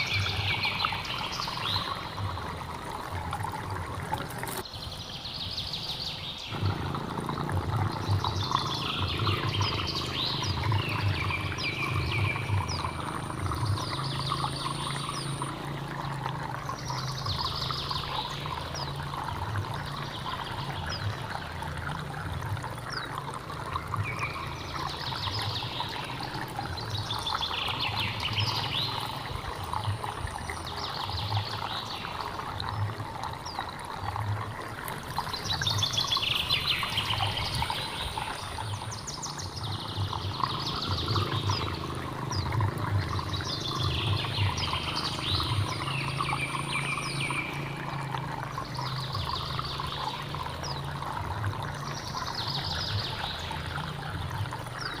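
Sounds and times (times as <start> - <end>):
bird singing: 0.0 - 2.4, 4.6 - 21.4, 23.9 - 33.8, 35.2 - 55.0
stream trickling and splashing: 0.0 - 55.0.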